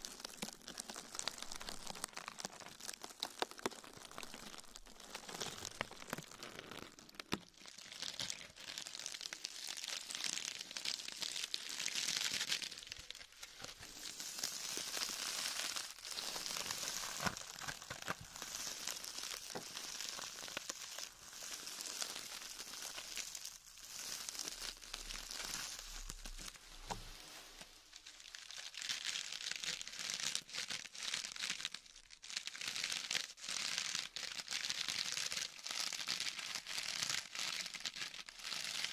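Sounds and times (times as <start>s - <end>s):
crinkling and crumpling rustle: 0.0s - 38.9s.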